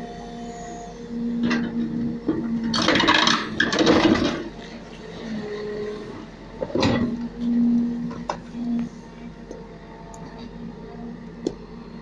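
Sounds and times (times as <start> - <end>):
backhoe engine and hydraulics hum: 0.0 - 12.0.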